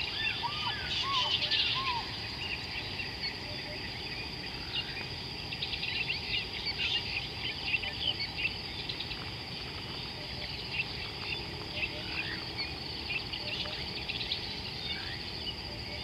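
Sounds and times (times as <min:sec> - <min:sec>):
birds chirping and twittering: 0:00.0 - 0:16.0
high-pitched insect drone: 0:00.0 - 0:16.0.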